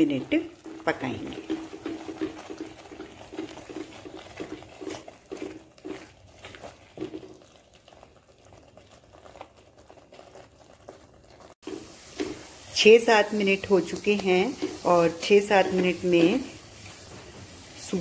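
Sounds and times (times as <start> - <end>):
spatula stirring and scraping: 0.0 - 18.0
thick mixture bubbling: 0.0 - 18.0.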